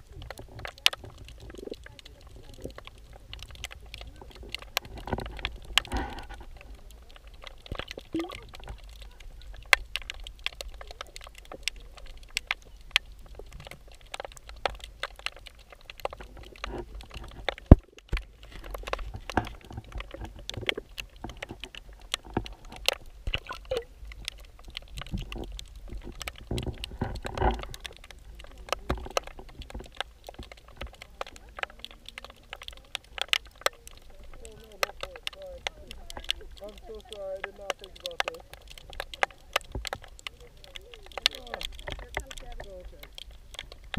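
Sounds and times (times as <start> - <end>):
underwater clicks and knocks: 0.0 - 43.9
underwater low rumble: 0.0 - 43.9.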